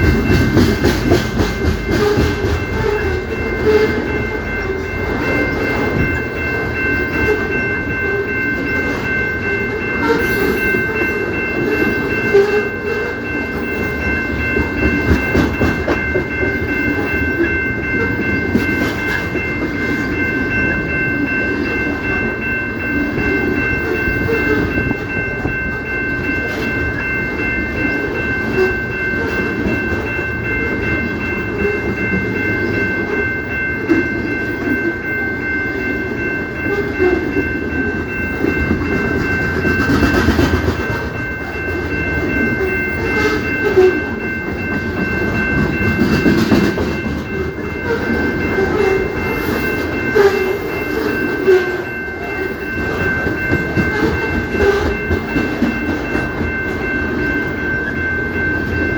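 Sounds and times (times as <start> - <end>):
train wheels rumbling and clattering: 0.0 - 34.7, 36.2 - 58.9
steady high-pitched tone: 0.0 - 58.9.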